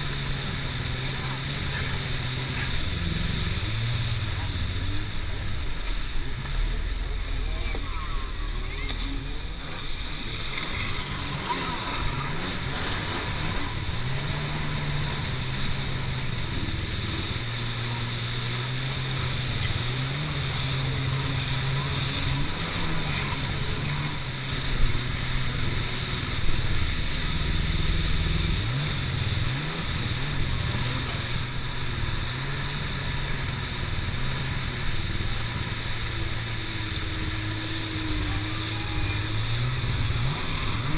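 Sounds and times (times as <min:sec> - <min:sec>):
jet ski engine running: 0:00.0 - 0:40.9
water spray rushing: 0:00.0 - 0:40.9
wind: 0:00.0 - 0:40.9.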